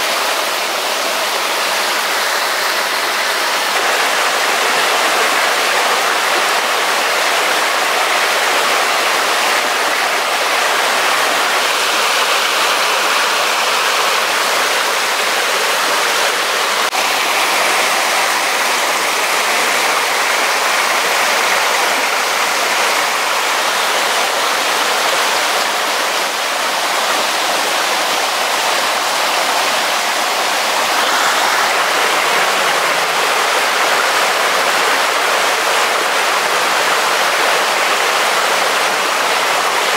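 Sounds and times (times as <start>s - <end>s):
rushing stream water: 0.0s - 39.9s.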